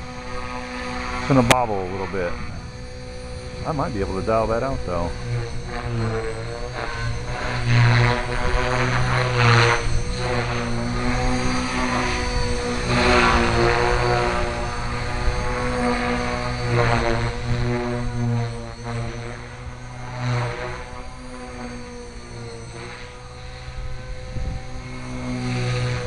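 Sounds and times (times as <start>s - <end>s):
rc helicopter rotor hum: 0.0s - 26.0s.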